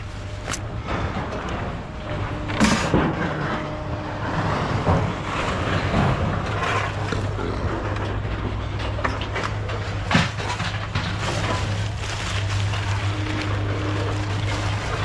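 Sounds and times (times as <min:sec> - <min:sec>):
low engine hum: 0:00.0 - 0:15.0
scrap metal knocks and clanks: 0:00.8 - 0:03.9, 0:04.6 - 0:15.0.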